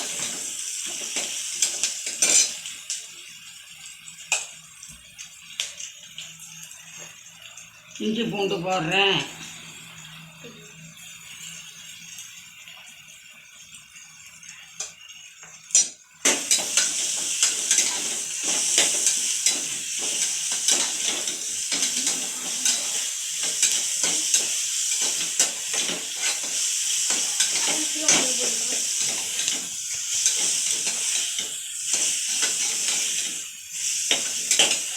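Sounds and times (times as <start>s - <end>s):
loud sizzling in oil: 0.0s - 34.9s.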